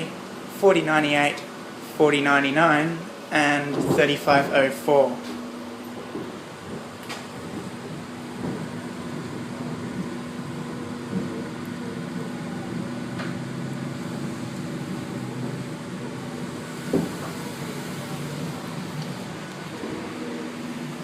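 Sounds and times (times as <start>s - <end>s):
train low hum: 0.0s - 21.0s.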